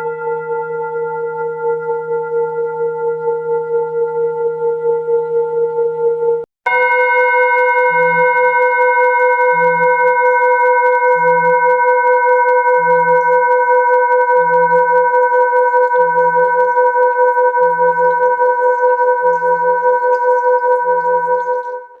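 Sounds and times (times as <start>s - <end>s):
singing bowl ringing: 0.0s - 3.5s, 6.7s - 22.0s.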